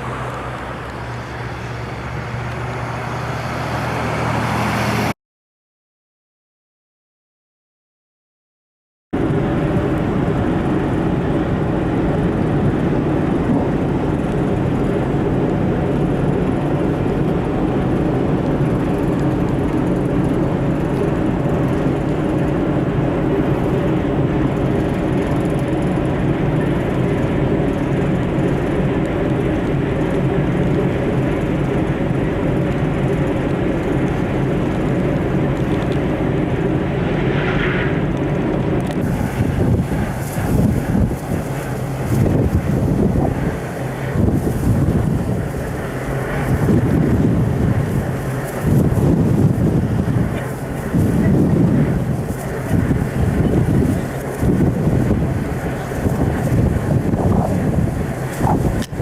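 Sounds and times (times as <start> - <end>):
ferry engines droning: 0.0 - 5.2, 9.2 - 59.0.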